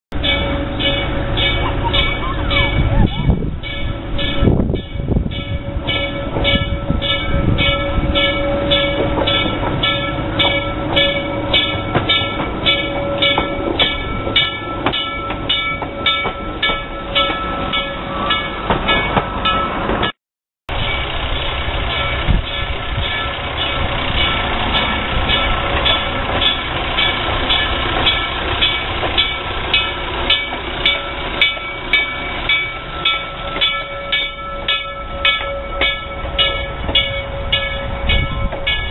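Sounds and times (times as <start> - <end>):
rail motor car moving along track: 0.1 - 38.9
bell ringing steadily: 0.2 - 38.9.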